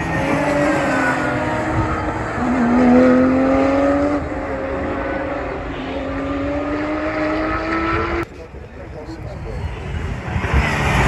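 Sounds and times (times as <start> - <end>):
cars passing by: 0.0 - 11.0
race car engines at full throttle: 0.0 - 11.0.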